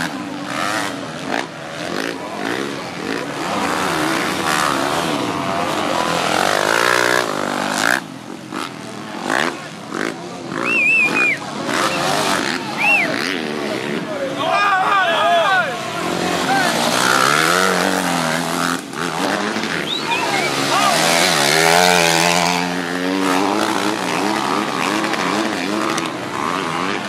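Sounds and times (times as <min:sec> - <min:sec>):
motocross engines revving: 0:00.0 - 0:27.0.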